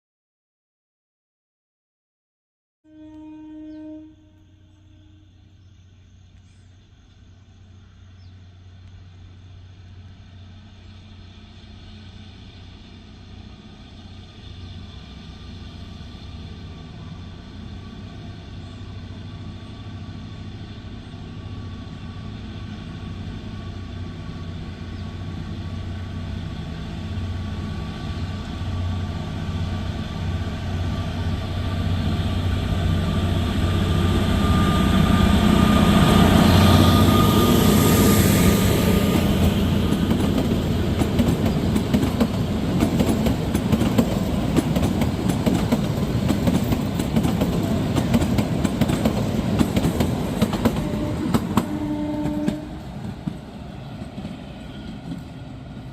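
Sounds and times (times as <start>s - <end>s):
train running hum: 2.9s - 55.9s.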